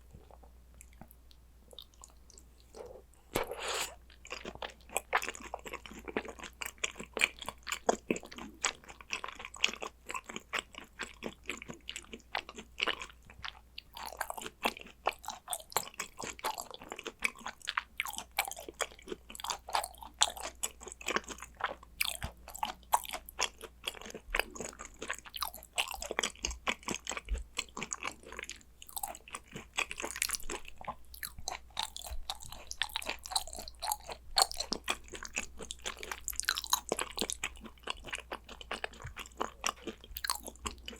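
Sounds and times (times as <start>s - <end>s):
close-miked chewing: 0.0s - 40.9s.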